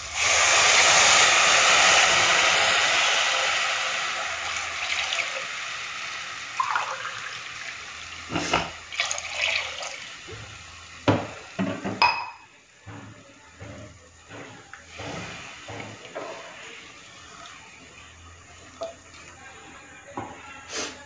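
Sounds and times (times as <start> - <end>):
water hissing in hot pan: 0.0 - 12.0, 14.4 - 19.5.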